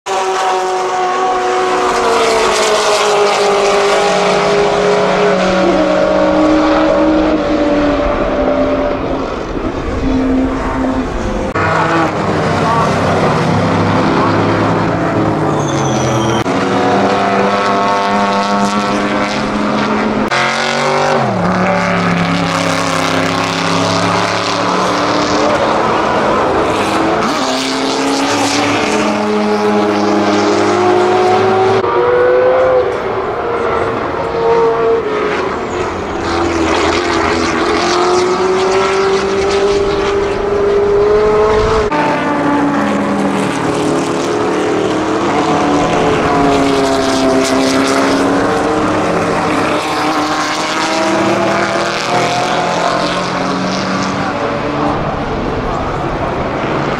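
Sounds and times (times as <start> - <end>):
racing car engines at full throttle: 0.0 - 56.9.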